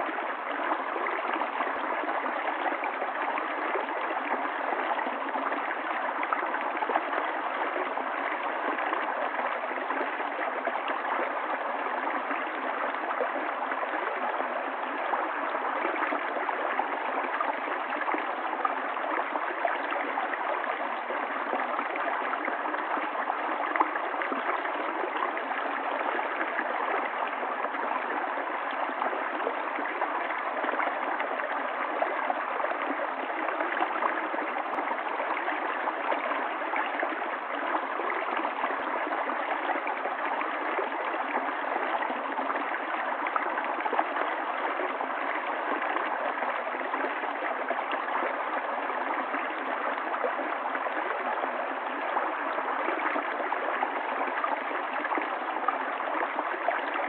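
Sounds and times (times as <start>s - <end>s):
water running over rocks: 0.0s - 57.0s.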